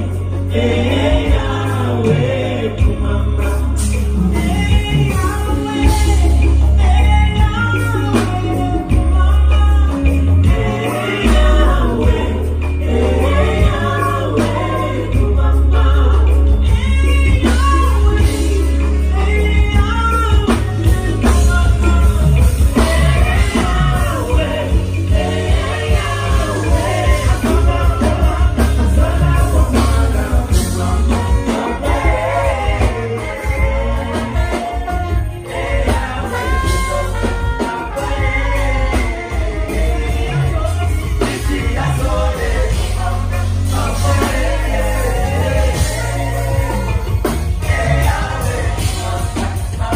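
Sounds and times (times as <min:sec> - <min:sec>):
heavy bass line: 0:00.0 - 0:49.9
live band playing: 0:00.0 - 0:49.9.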